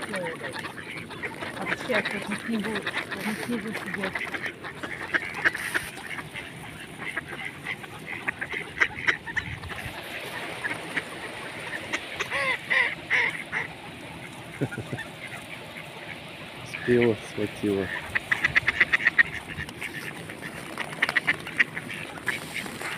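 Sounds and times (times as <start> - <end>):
ducks quacking: 0.0 - 22.9.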